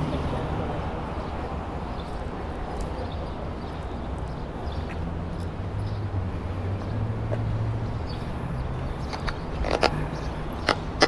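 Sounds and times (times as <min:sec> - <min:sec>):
traffic noise: 0:00.0 - 0:11.0.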